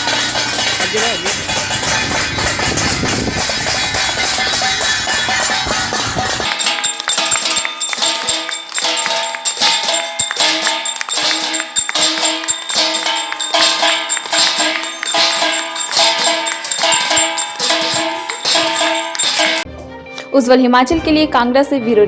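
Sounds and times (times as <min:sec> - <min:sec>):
rhythmic metallic percussion jingling: 0:00.0 - 0:19.7
sustained ringing tones: 0:00.0 - 0:19.7.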